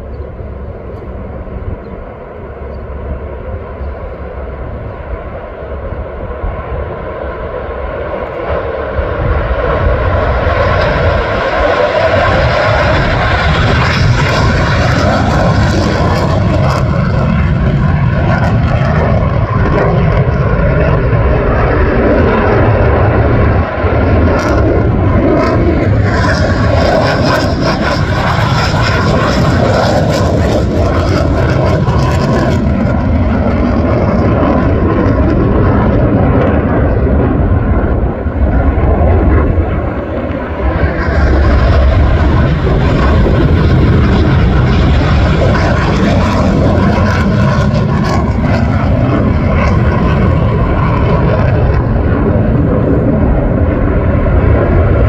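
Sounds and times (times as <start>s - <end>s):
fighter jet flying past: 0.0s - 55.0s.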